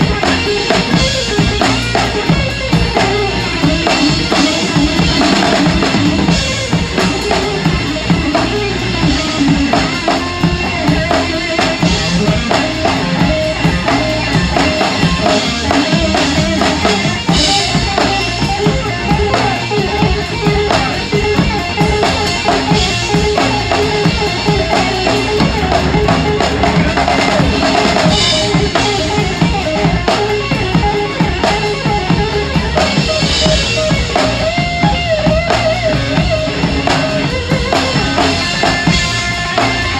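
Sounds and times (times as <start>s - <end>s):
rock band playing: 0.0s - 39.9s
rock drum kit playing: 0.0s - 39.9s.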